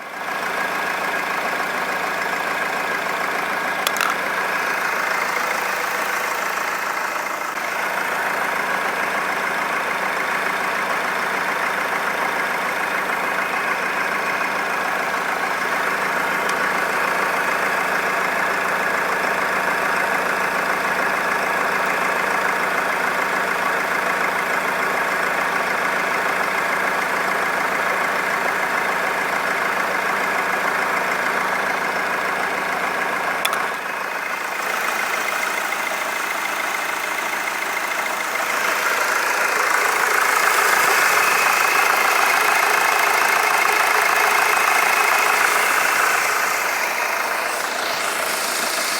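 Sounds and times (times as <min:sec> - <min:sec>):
diesel engine idling: 0:00.0 - 0:48.9
engine knocking: 0:00.0 - 0:48.9.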